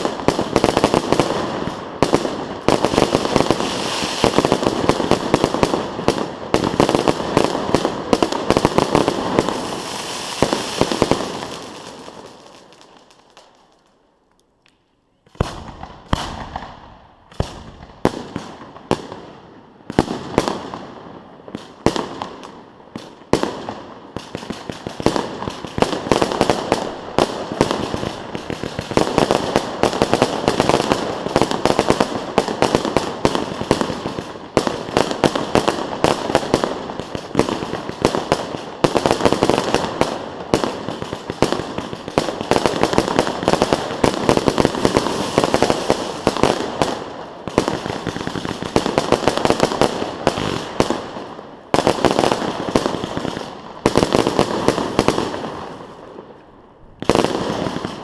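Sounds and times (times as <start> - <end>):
fireworks bangs and crackling: 0.0 - 14.1, 15.2 - 58.0.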